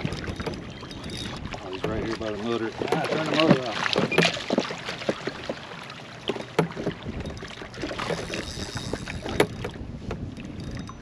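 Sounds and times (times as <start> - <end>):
water lapping against a hull: 0.0 - 11.0.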